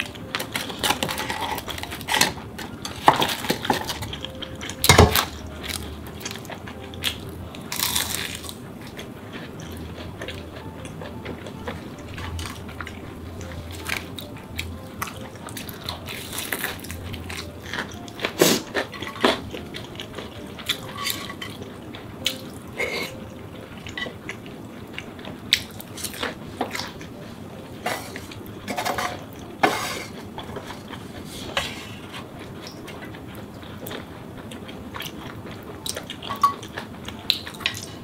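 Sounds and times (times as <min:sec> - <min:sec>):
chewing: 0:00.0 - 0:28.4, 0:29.2 - 0:38.0.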